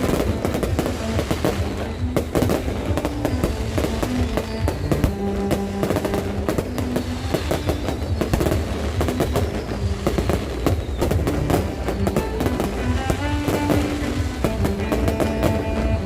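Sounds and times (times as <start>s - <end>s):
fireworks cracks and bangs: 0.0s - 16.0s
music playing: 0.0s - 16.0s.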